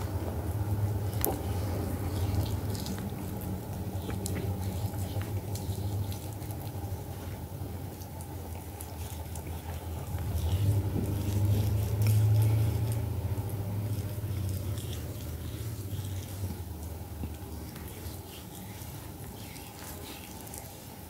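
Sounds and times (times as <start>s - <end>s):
steady low rumble: 0.0s - 20.9s
soft squelches of paste: 0.0s - 21.0s.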